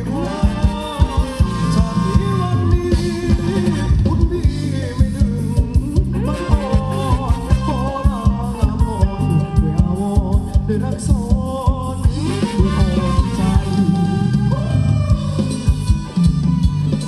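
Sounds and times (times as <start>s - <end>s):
person singing: 0.0s - 16.7s
bass line: 0.0s - 17.0s
live band dance music: 0.0s - 17.0s
steady drum beat: 0.0s - 17.0s.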